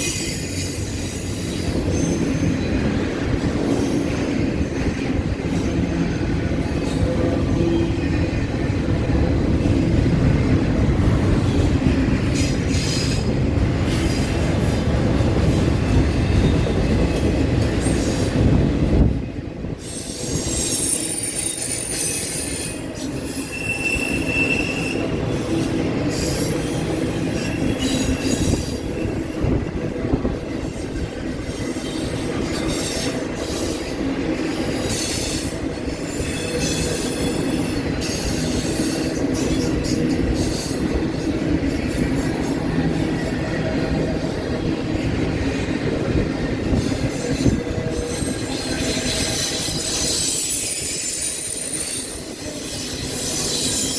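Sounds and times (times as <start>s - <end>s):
steel wheels squealing on rail: 0.0s - 10.1s, 10.8s - 19.0s, 19.6s - 53.9s.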